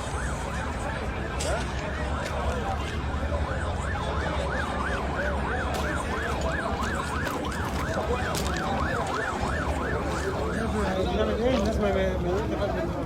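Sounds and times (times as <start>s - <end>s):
lower siren wailing: 0.0s - 11.8s
ambulance siren yelping: 0.0s - 13.0s.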